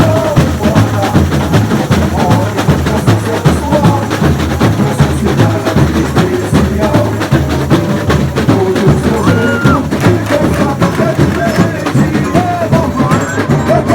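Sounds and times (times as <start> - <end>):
amplified samba music: 0.0 - 13.9
samba drumming: 0.0 - 13.9.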